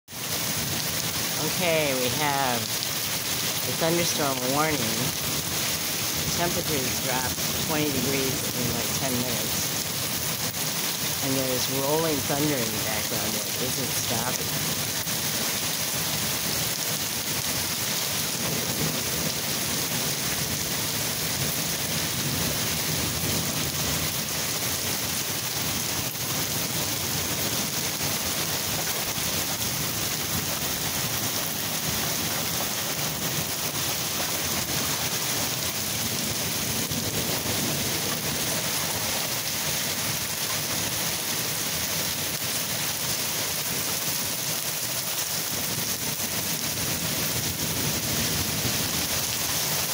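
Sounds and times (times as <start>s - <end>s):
steady rain falling: 0.1s - 49.9s.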